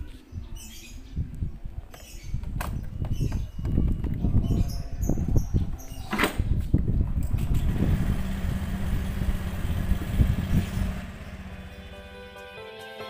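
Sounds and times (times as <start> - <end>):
songbirds chirping: 0.0 - 12.5.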